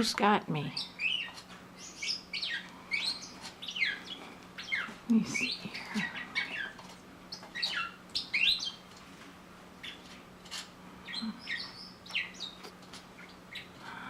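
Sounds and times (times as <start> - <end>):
faint low hum: 0.0 - 14.0
small birds chirping: 0.0 - 14.0.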